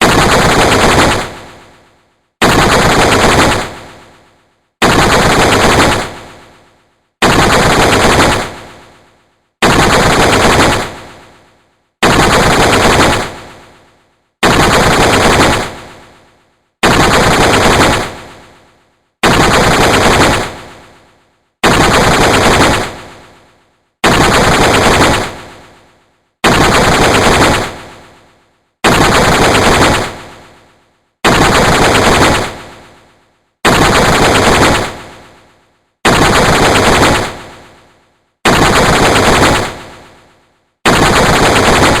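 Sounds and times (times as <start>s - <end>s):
sci-fi rapid gunfire burst: 0.0s - 42.0s.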